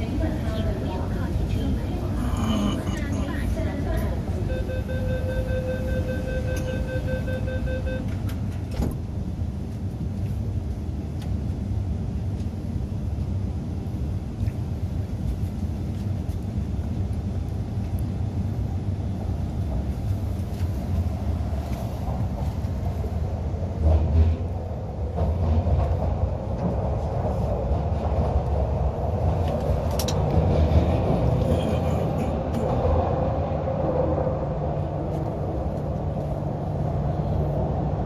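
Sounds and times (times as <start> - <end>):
metro carriage rumbling on track: 0.0 - 38.0.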